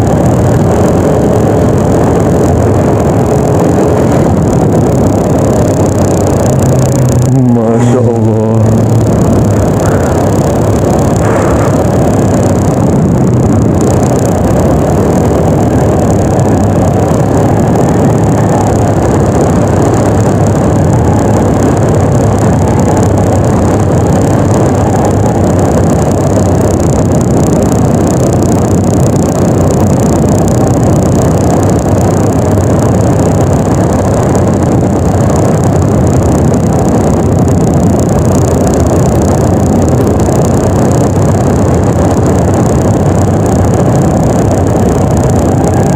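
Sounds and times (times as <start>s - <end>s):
loud rush of noise: 0.0s - 45.9s
scooter engine running: 0.0s - 45.9s.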